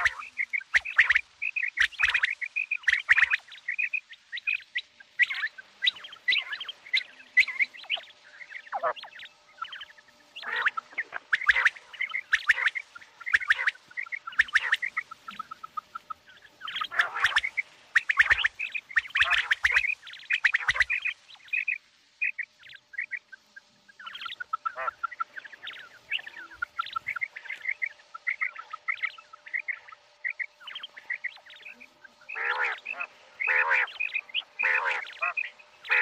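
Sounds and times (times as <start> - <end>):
quail calling: 0.0 - 36.0.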